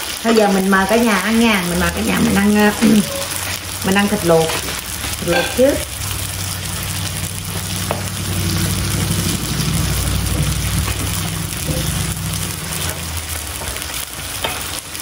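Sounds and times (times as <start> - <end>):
meat sizzling on a grill pan: 0.0 - 15.0
low hum: 1.1 - 14.2.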